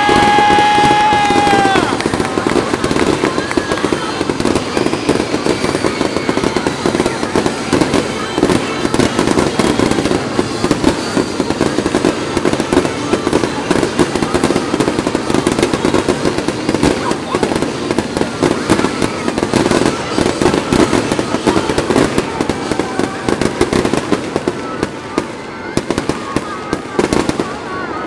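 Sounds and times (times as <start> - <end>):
fireworks crackling and popping: 0.0 - 28.0.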